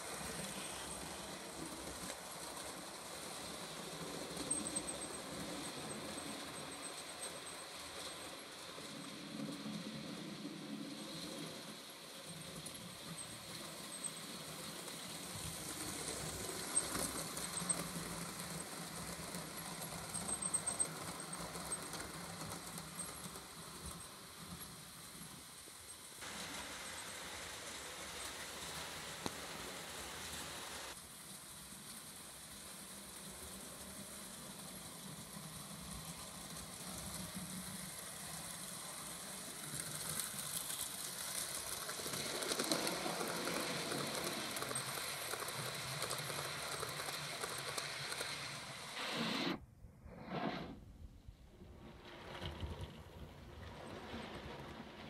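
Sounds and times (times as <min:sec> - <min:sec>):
model train motor whirring: 0:00.0 - 0:49.6
wheels running on rails: 0:00.0 - 0:49.6, 0:51.6 - 0:55.0.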